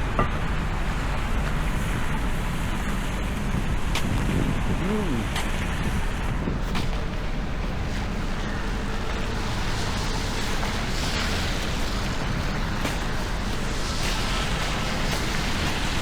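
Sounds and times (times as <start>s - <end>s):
city street noise: 0.0s - 16.0s
wind buffeting microphone: 0.0s - 16.0s.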